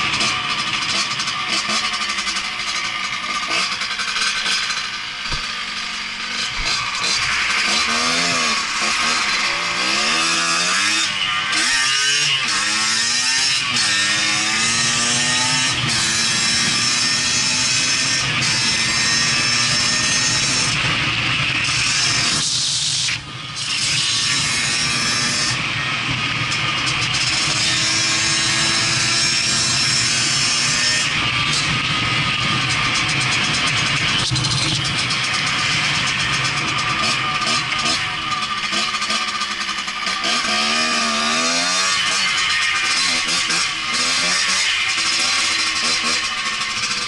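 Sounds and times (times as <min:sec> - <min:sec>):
two-stroke motorbike engine buzzing: 0:00.0 - 0:47.0.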